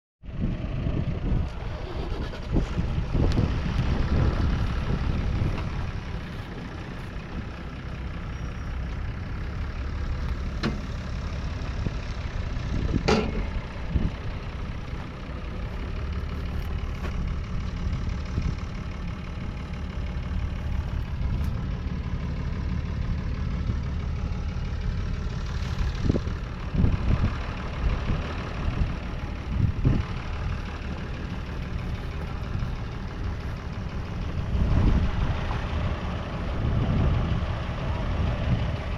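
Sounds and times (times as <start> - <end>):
tractor diesel engine running: 0.2 - 38.9.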